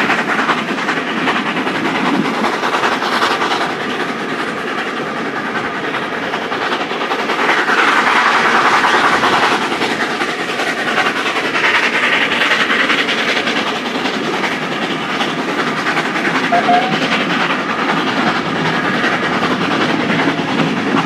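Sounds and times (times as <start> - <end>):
rush of moving train: 0.0 - 21.0.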